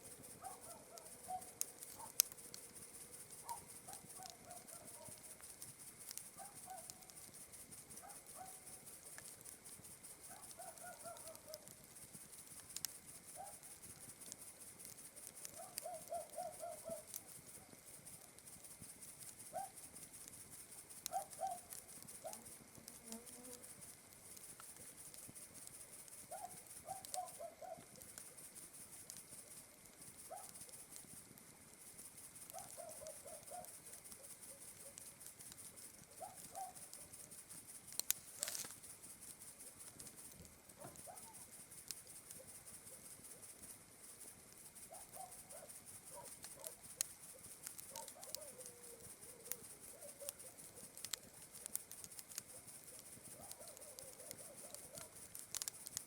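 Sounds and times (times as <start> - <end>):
campfire crackling: 0.0 - 56.0
night insects chirring: 0.0 - 56.0.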